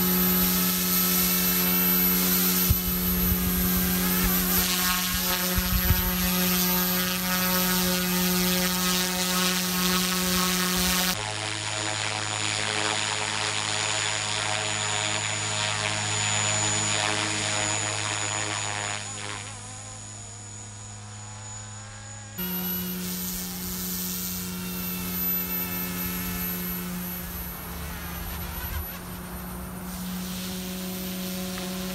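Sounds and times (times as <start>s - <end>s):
rc helicopter rotors whining: 0.0s - 31.9s.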